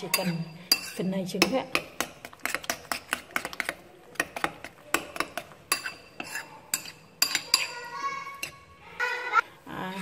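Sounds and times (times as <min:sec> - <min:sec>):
metal spoon clinking in ceramic bowl: 0:00.0 - 0:08.6.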